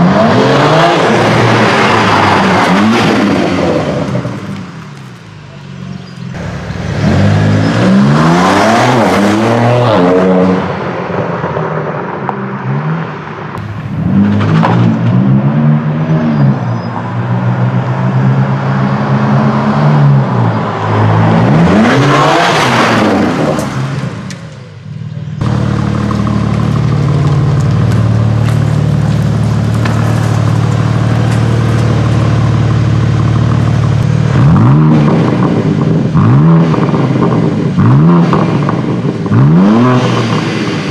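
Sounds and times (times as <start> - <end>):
car engine revving and idling: 0.0 - 40.9.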